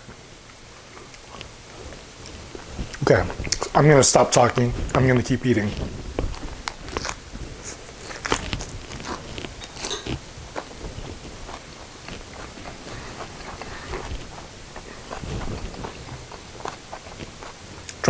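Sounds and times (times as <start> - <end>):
crunching and chewing spring roll: 0.0 - 18.0.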